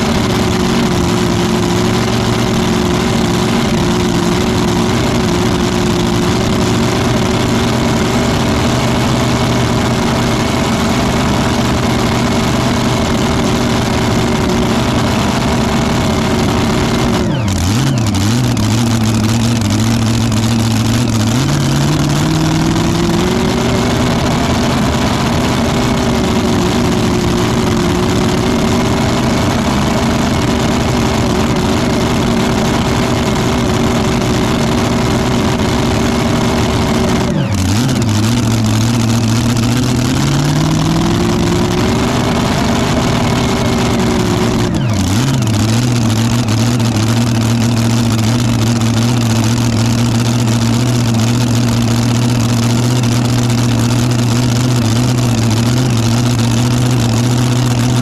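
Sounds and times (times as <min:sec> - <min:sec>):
supercharged tractor engine idling: 0:00.0 - 0:58.0.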